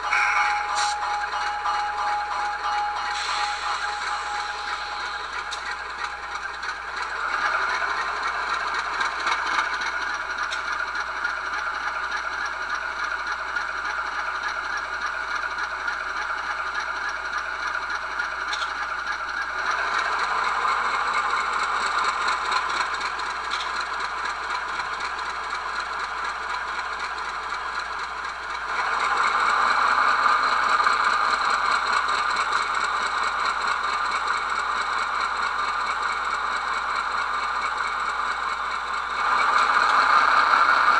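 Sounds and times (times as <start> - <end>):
diesel engine rattling from speaker: 0.6 - 40.9.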